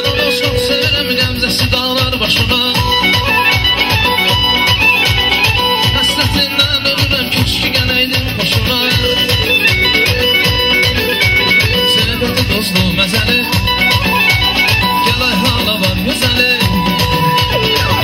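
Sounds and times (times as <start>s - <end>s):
fast drum beat: 0.0s - 18.0s
synthesizer dance music: 0.0s - 18.0s.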